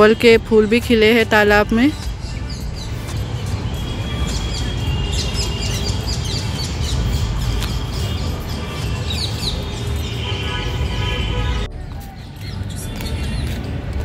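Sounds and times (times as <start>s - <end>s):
birds chirping and squawking: 0.0s - 13.7s.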